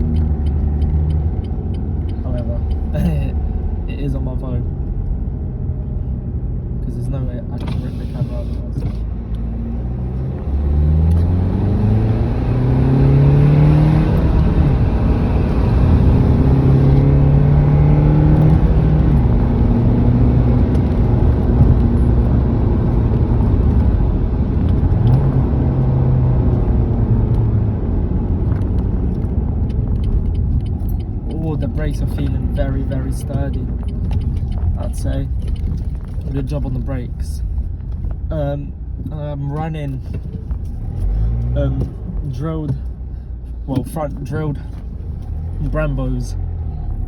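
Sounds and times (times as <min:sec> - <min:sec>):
car engine accelerating through gears: 0:00.0 - 0:04.0, 0:04.6 - 0:39.2, 0:39.8 - 0:47.0
road rumble: 0:00.0 - 0:47.0.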